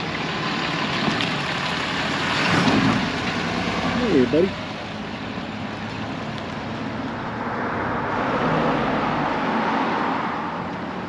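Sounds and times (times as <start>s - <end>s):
vehicle passing on street: 0.0s - 11.0s.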